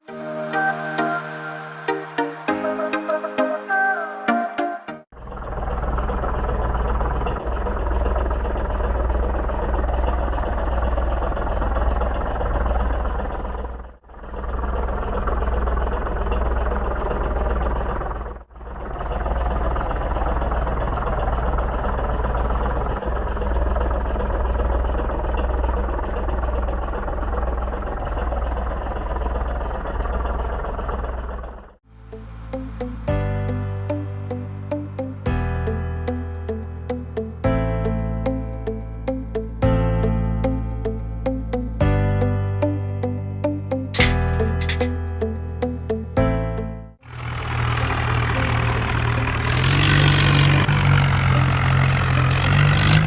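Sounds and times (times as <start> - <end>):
engine running with pulsing throb: 5.1 - 53.0.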